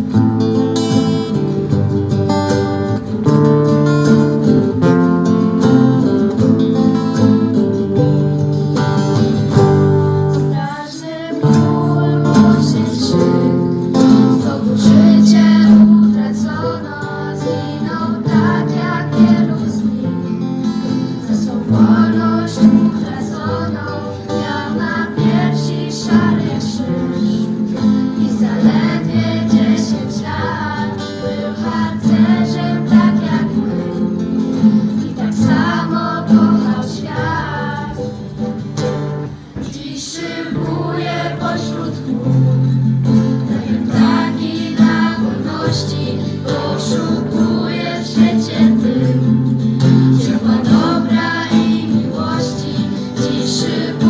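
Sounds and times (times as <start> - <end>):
strummed acoustic guitar: 0.0 - 54.0
voices singing together: 0.0 - 54.0.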